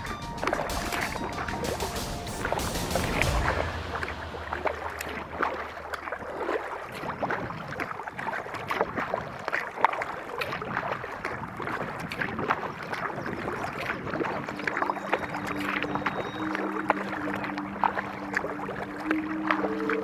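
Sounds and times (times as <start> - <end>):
paddle splashes and drips: 0.0 - 20.0.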